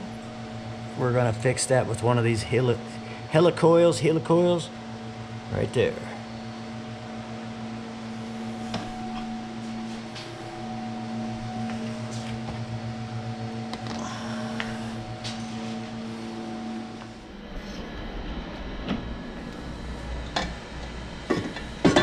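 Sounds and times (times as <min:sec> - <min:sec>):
small machine humming: 0:00.0 - 0:22.0.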